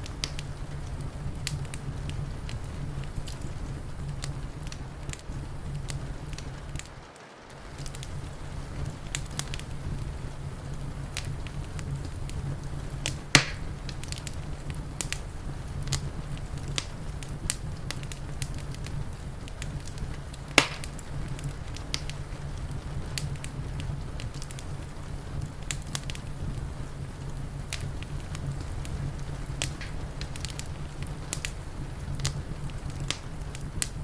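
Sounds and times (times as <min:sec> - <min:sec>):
loud pops from fire: 0:00.0 - 0:34.0
wood fire crackling: 0:00.0 - 0:34.0.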